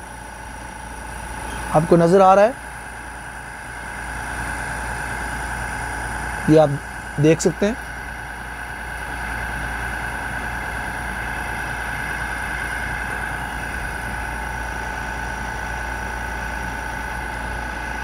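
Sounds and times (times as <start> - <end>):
fan motor hum with high whine: 0.0 - 18.0.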